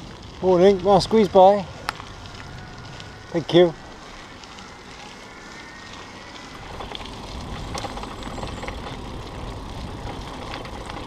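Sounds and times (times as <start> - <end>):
bike clicks and rattles: 0.0 - 11.0
tyres rumbling on dirt path: 0.0 - 11.0.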